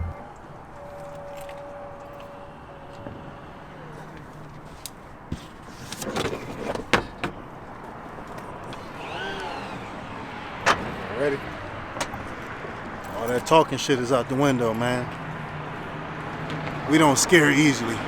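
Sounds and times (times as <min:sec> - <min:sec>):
car engine humming: 0:00.0 - 0:05.7, 0:07.4 - 0:18.0.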